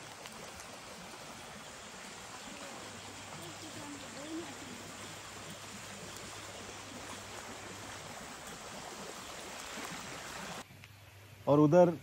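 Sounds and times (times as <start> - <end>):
river water rushing: 0.0 - 10.6.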